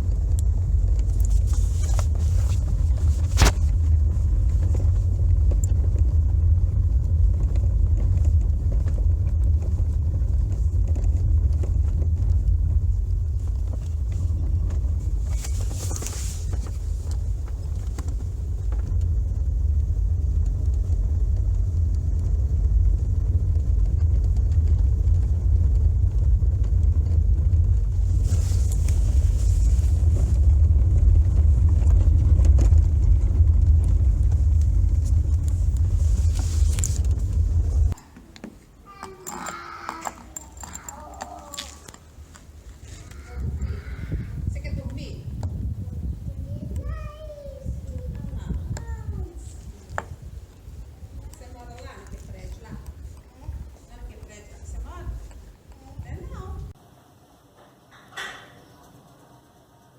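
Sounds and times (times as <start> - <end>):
low road rumble: 0.0 - 56.8.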